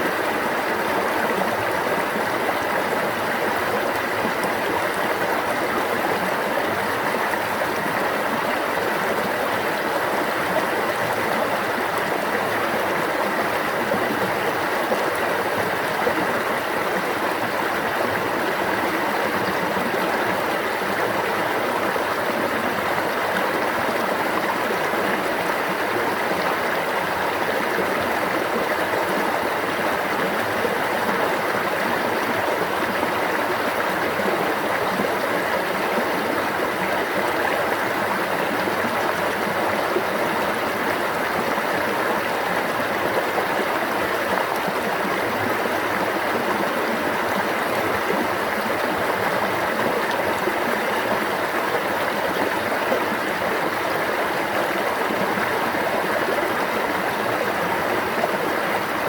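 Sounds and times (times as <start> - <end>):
stream rushing and babbling: 0.0 - 59.0.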